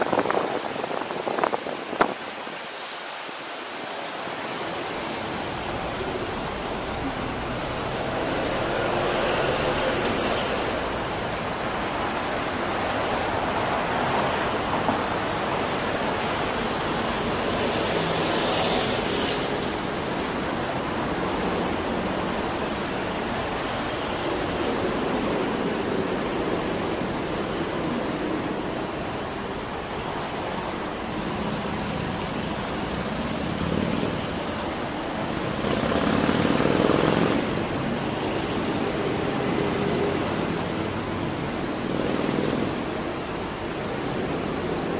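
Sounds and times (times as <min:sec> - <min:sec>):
street traffic: 0:00.0 - 0:44.9.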